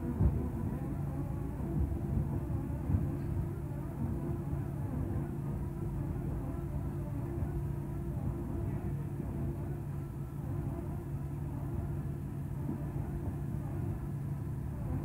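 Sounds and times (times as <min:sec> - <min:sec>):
heavy diesel machinery humming: 0:00.0 - 0:15.0.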